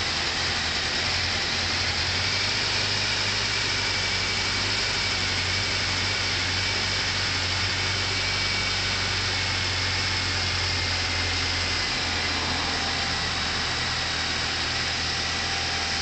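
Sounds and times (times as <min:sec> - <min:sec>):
car engine idling with misfire: 0:00.0 - 0:16.0.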